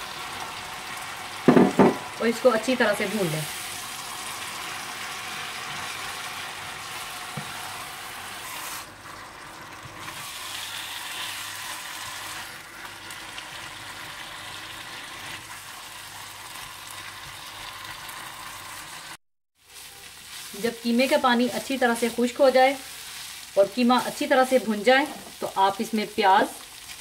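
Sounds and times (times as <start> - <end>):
meat sizzling in oil: 0.0 - 27.0.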